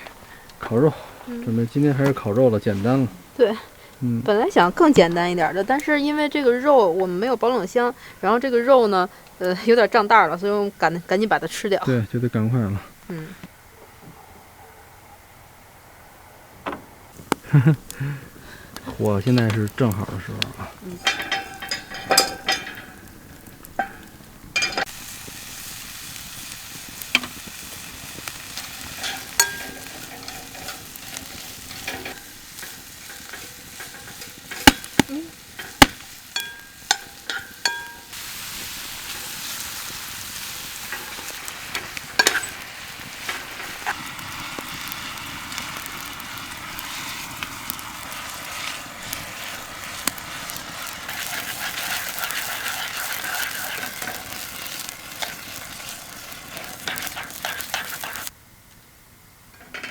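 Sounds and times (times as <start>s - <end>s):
meat sizzling on a grill: 0.0s - 13.7s, 17.1s - 58.4s.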